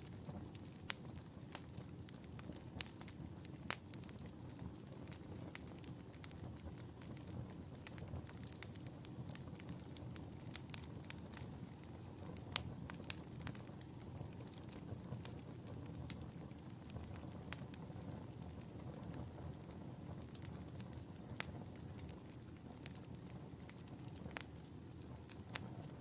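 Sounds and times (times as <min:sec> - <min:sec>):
fire crackling and popping: 0:00.0 - 0:26.0
wood fire flames rumbling: 0:00.0 - 0:26.0.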